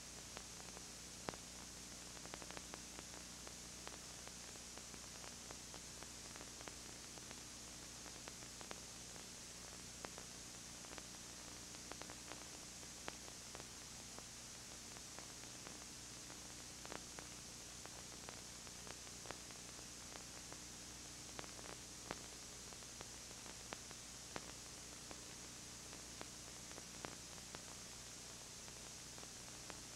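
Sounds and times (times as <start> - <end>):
tape hiss: 0.0 - 29.9
faint clicks and crackles: 0.1 - 29.9.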